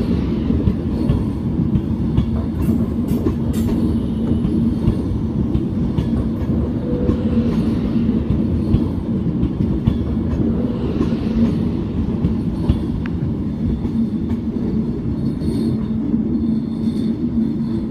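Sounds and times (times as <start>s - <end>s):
electric train rumble and hum: 0.0s - 17.9s.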